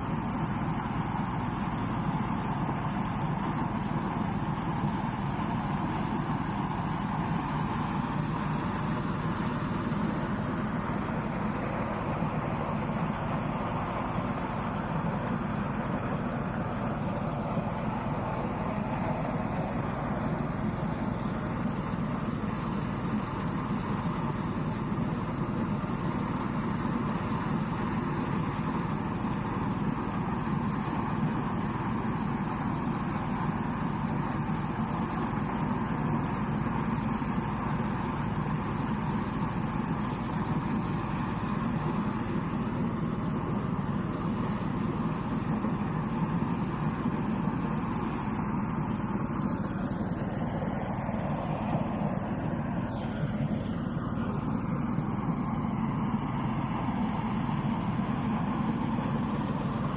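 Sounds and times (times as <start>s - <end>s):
harvesting machinery engine drone: 0.0s - 59.9s.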